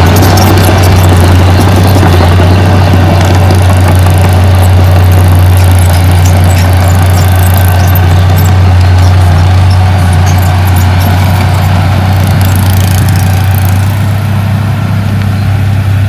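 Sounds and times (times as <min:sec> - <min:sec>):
heavy machinery diesel engine running: 0:00.0 - 0:16.0.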